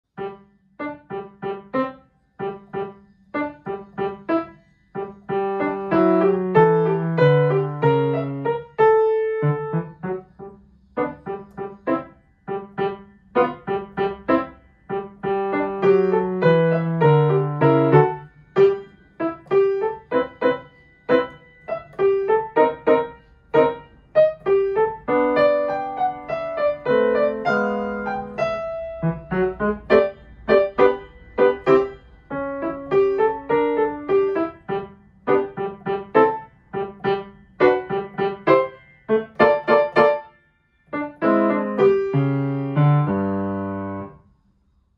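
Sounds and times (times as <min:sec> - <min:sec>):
slow piano piece: 0:00.1 - 0:44.4.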